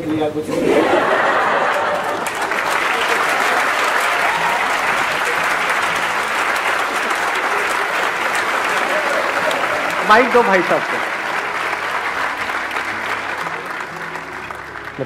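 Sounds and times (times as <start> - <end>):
audience applauding: 0.8 - 15.0.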